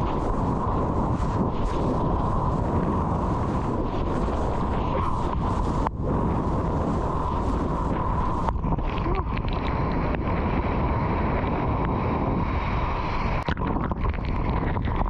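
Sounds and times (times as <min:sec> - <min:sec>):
water rushing and splashing: 0:00.0 - 0:15.0
wind buffeting microphone: 0:00.0 - 0:15.0.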